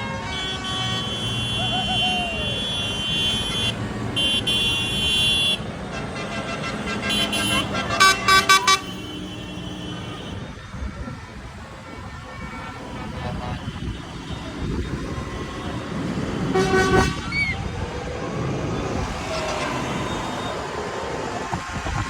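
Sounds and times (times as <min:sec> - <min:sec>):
tractor engines running: 0:00.0 - 0:22.0.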